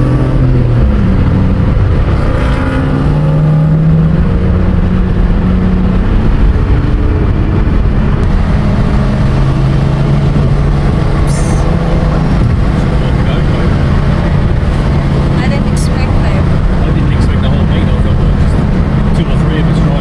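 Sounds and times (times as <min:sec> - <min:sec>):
race car engine running loud: 0:00.0 - 0:20.0.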